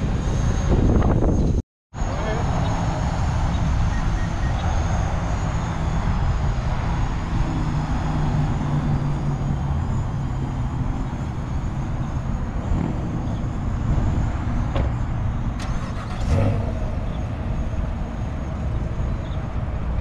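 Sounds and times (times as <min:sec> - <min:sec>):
car engine low rumble: 0:00.0 - 0:20.0.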